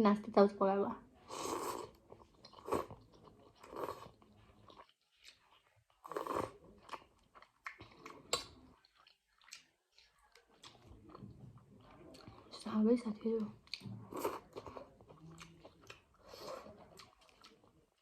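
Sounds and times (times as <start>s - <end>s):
person chewing and crunching: 1.3s - 12.5s, 13.3s - 18.0s.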